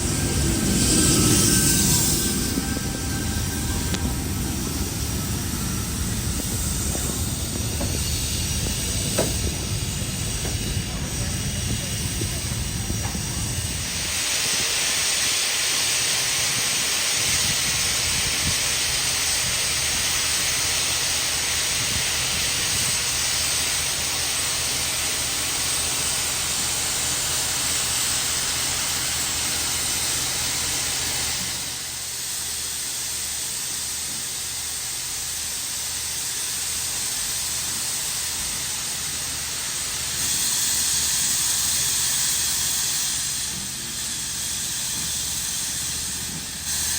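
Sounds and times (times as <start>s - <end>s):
steam locomotive blowing off steam: 0.0s - 46.9s.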